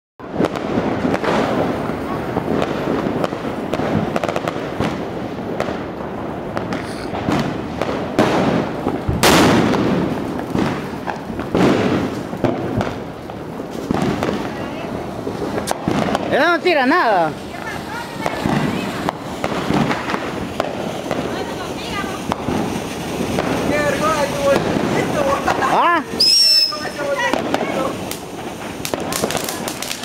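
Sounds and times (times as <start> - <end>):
fireworks crackling and popping: 0.2 - 30.0
firework rocket rushing hiss: 0.3 - 30.0.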